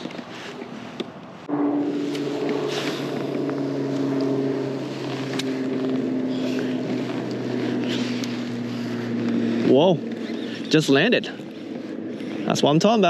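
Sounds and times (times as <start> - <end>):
electric boat motor humming: 1.5 - 13.0.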